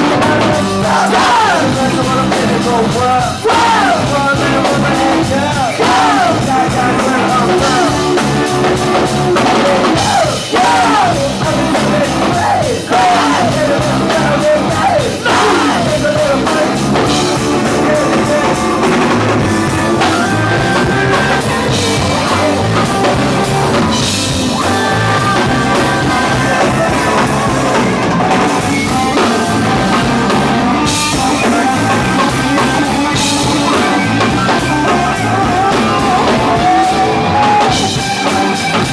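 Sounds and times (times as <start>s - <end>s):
drum kit: 0.0s - 38.9s
live rock band playing: 0.0s - 38.9s.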